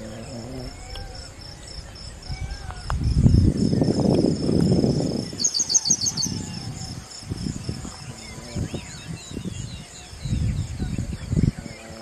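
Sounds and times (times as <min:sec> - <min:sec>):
insects chirping high trill: 0:00.0 - 0:12.0.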